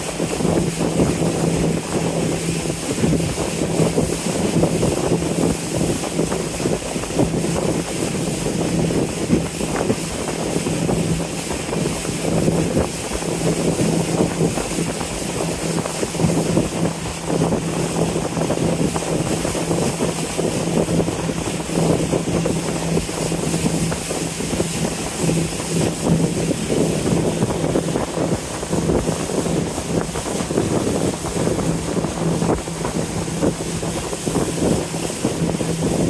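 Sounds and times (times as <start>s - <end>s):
boat engine drone: 0.0s - 36.0s
water rushing: 0.0s - 36.0s
wind rushing: 0.0s - 36.0s.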